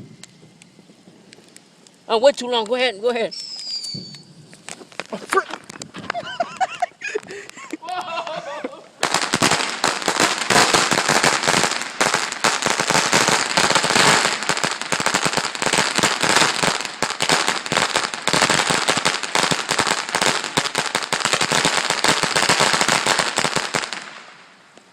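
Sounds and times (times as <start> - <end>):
firecrackers cracking: 0.0 - 2.8, 3.4 - 24.9.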